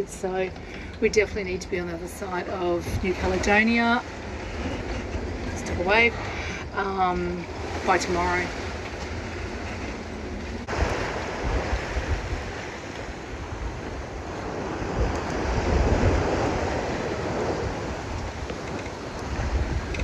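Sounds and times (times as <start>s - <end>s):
water rushing along hull: 0.0s - 20.0s
wind buffeting microphone: 0.0s - 20.0s.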